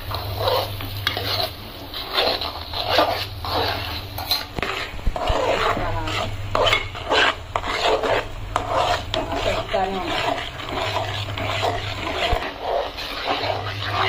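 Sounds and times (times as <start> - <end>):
metal spatula scraping steel pot: 0.0 - 14.0.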